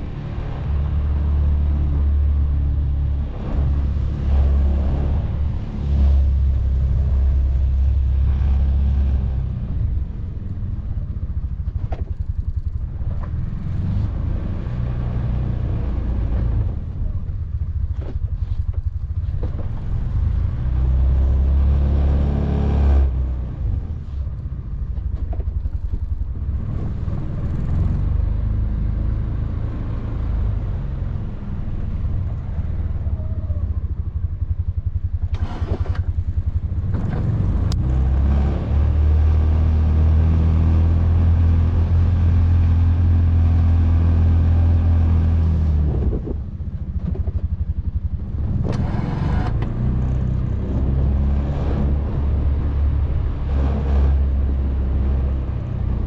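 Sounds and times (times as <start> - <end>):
vehicle engine revving: 0.0 - 24.5, 26.4 - 56.0.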